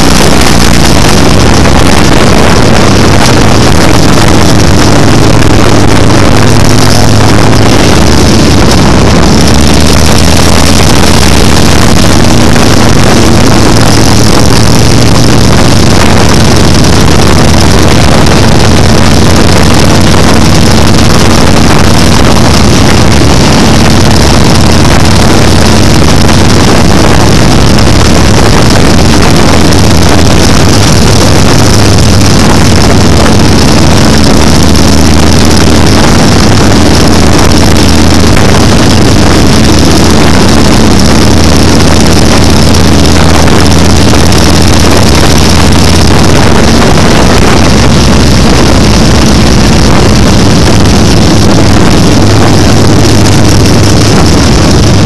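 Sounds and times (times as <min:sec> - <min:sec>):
motorcycle engines cruising: 0:00.0 - 0:55.0
wind rushing over microphone: 0:00.0 - 0:55.0.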